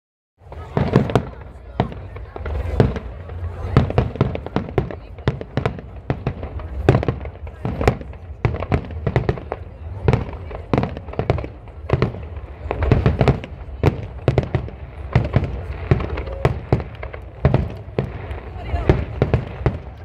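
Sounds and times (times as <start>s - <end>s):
fireworks bursting with sharp bangs: 0.4s - 20.0s.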